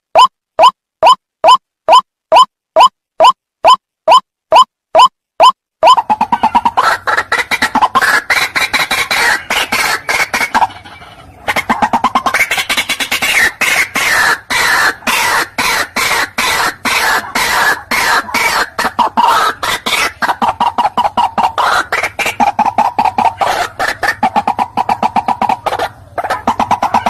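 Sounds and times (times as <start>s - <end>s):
bird calling repeated notes: 0.0s - 27.0s.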